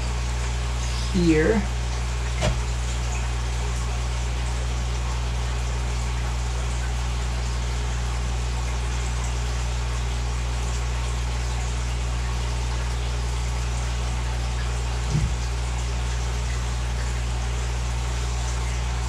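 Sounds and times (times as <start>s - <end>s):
aquarium air pump humming: 0.0s - 19.0s.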